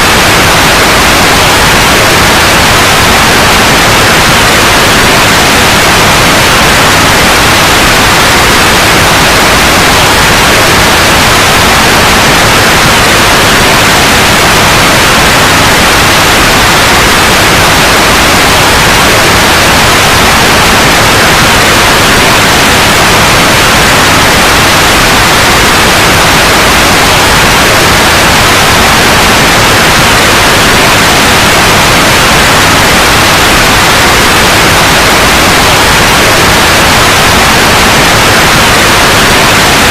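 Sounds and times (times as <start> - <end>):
loud white noise hiss: 0.0 - 39.9.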